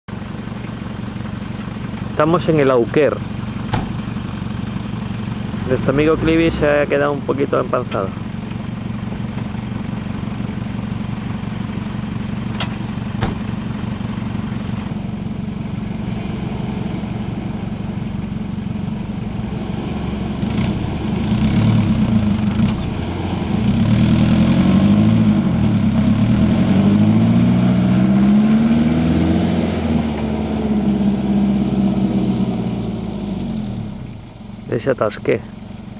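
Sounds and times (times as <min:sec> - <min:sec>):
suv engine revving: 0:00.2 - 0:35.9.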